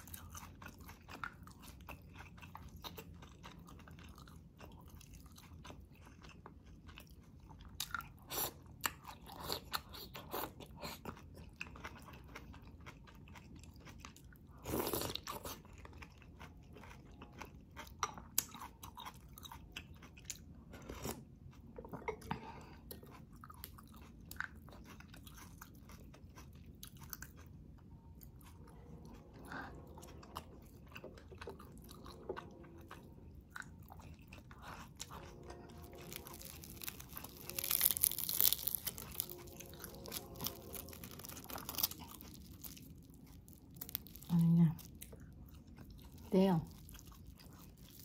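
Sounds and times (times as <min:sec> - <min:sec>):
chewing crisp food: 0:00.0 - 0:48.0.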